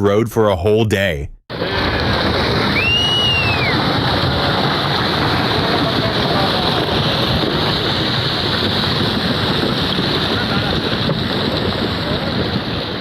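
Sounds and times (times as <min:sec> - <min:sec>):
steady rushing noise: 0:01.5 - 0:13.0
wind buffeting microphone: 0:01.5 - 0:13.0.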